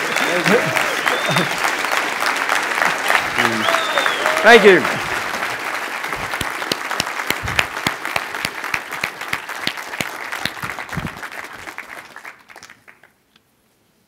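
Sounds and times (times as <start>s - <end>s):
crowd applauding: 0.0s - 13.2s.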